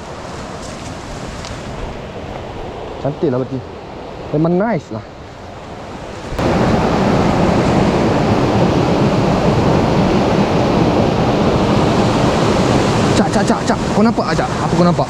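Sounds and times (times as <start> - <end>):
fast-flowing river water: 0.0 - 15.0.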